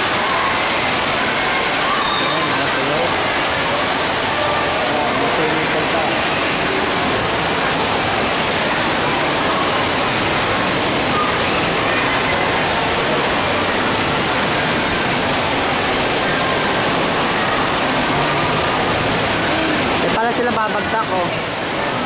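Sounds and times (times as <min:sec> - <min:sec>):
faint voices: 0:00.0 - 0:22.0
rushing water: 0:00.0 - 0:22.0.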